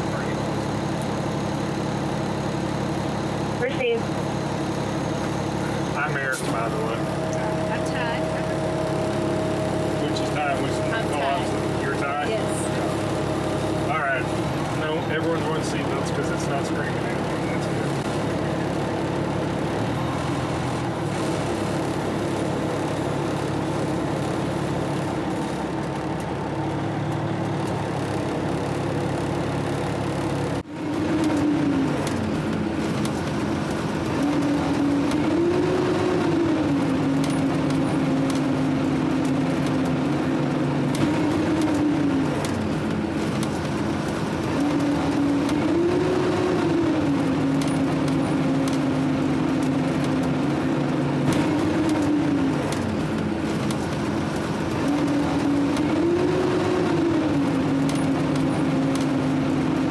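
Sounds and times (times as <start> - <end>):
fire truck engine running: 0.0 - 59.9.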